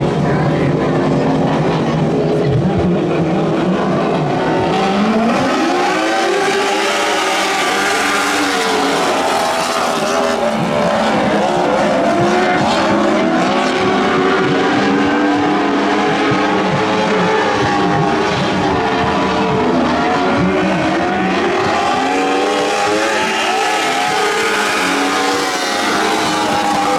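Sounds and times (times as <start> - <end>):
race car engines revving: 0.0 - 26.9.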